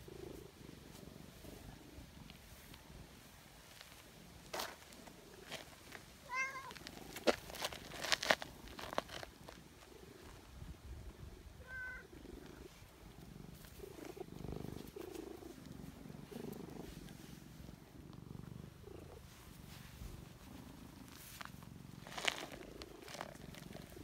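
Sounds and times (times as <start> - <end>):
cat purring: 0.0 - 6.0, 6.7 - 24.0.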